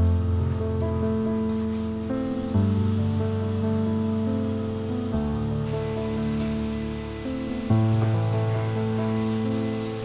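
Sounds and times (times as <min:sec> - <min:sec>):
sustained chords with deep bass: 0:00.0 - 0:10.0.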